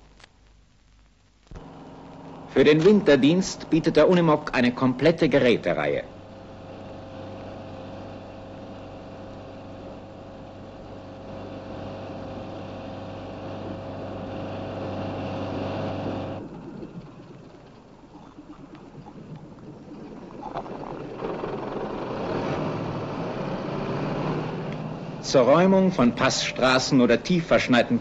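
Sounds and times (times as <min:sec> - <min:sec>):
rough running noise: 0:01.5 - 0:28.0
truck engine running: 0:01.6 - 0:28.0.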